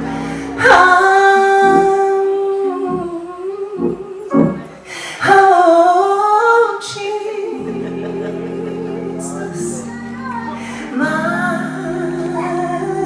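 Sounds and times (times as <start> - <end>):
woman singing into a microphone: 0.0 - 9.9, 10.7 - 13.0.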